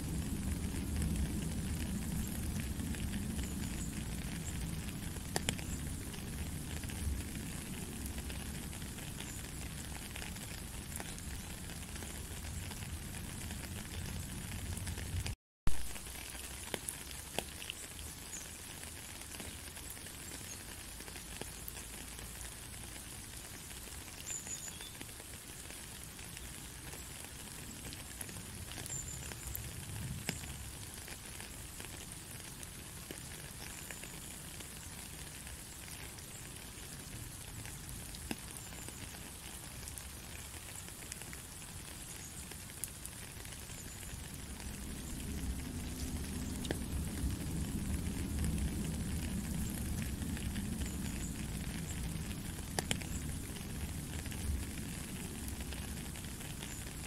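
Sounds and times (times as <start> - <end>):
rain hissing: 0.0 - 57.0
raindrop ticks: 0.0 - 57.0.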